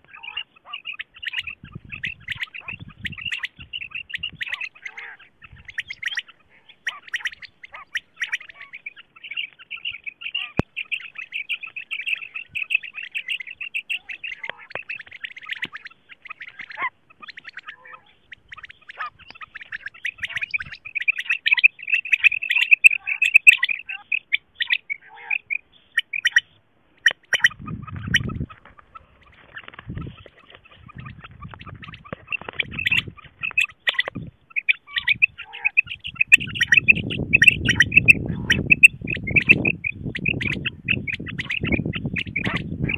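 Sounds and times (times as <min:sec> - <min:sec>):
quail calls chattering: 0:00.0 - 0:42.9.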